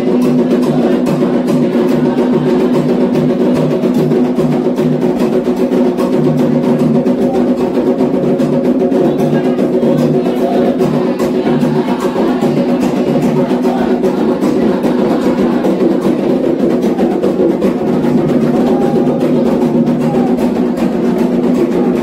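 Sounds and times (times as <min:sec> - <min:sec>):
hand drums: 0:00.0 - 0:22.0.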